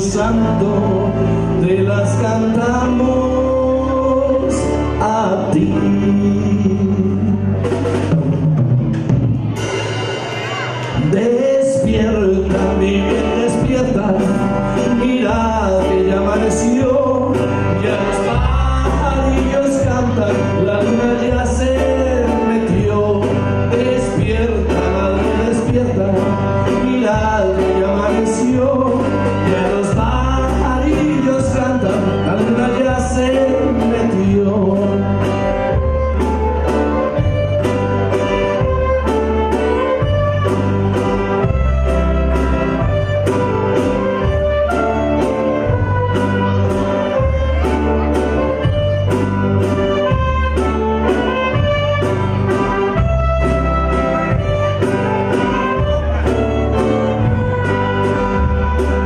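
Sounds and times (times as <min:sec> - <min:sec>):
live band playing: 0:00.0 - 0:59.0
saxophones and keyboard melody: 0:00.0 - 0:59.0.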